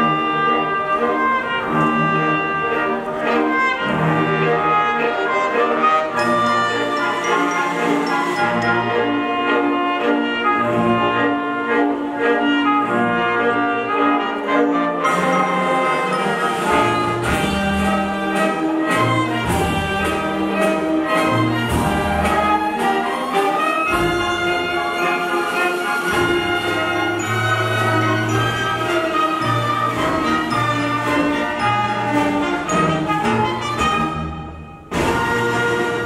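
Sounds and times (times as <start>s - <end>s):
orchestra strings and brass playing: 0.0s - 36.0s.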